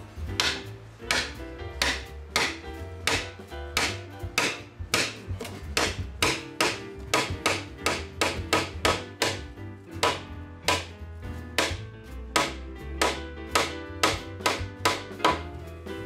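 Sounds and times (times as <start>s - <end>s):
background music: 0.0s - 16.0s
hammer striking wooden peg: 0.3s - 15.6s.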